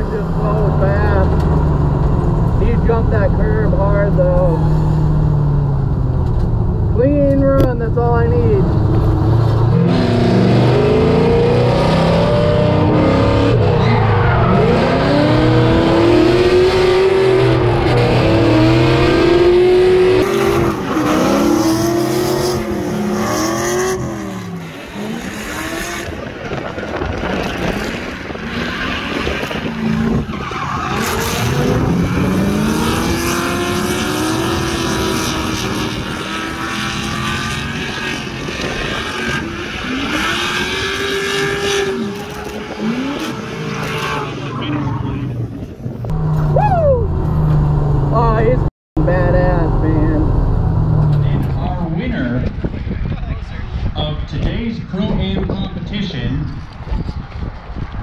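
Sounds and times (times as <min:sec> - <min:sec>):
car engines revving: 0:00.0 - 0:55.6.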